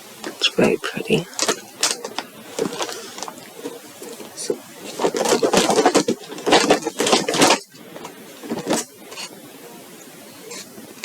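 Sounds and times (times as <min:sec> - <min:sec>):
packaging rustling and crinkling: 0:00.1 - 0:09.4.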